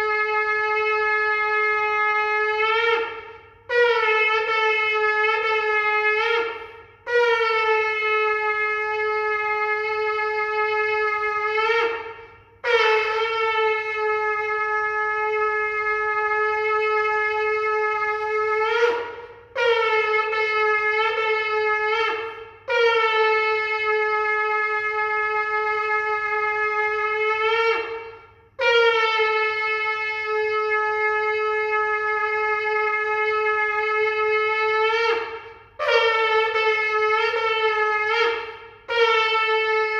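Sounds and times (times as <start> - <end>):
ram's horn blasts: 0.0 - 39.9.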